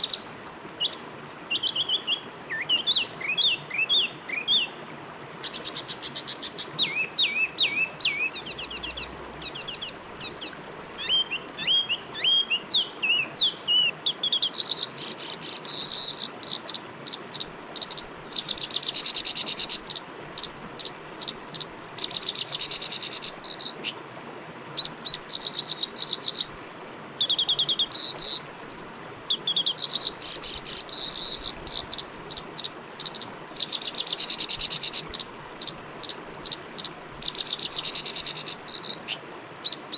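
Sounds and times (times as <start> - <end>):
flowing river water: 0.0 - 39.9
songbirds whistling and chirping: 0.8 - 4.8, 5.6 - 24.0, 24.8 - 39.8.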